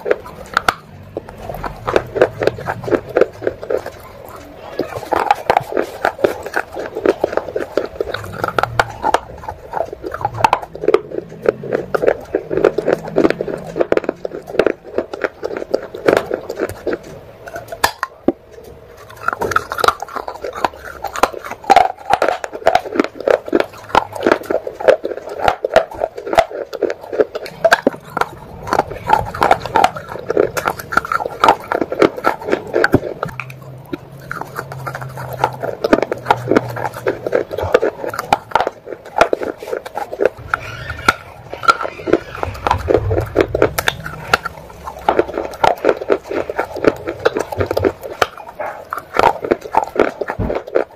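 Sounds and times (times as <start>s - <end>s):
chewing mouth sounds: 0.0s - 50.9s
crunching of clay pieces: 0.0s - 50.9s.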